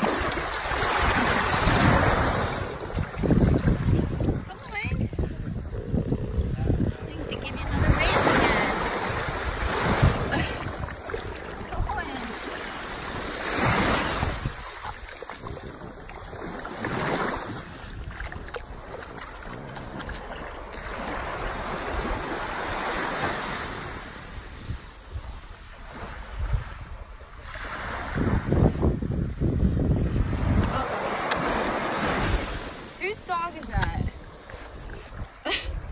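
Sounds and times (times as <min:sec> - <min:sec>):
small waves washing in: 0:00.0 - 0:05.7, 0:06.9 - 0:35.9
wind rumbling on microphone: 0:00.0 - 0:35.9.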